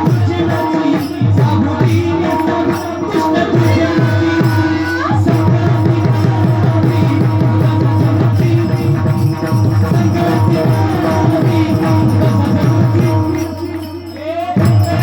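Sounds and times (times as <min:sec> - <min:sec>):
fast drum beat: 0:00.0 - 0:15.0
jingling percussion: 0:00.0 - 0:15.0
steady held tones: 0:00.0 - 0:15.0.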